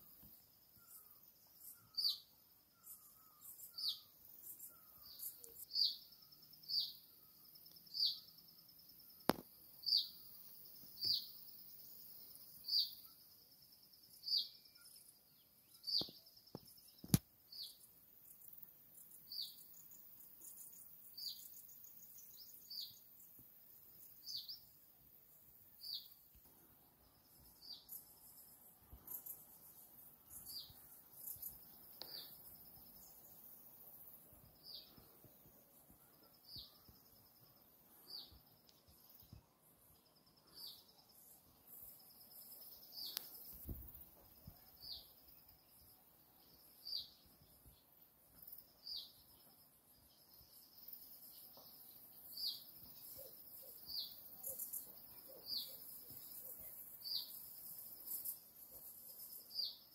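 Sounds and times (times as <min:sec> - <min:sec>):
faint outdoor ambience hiss: 0:00.0 - 0:59.9.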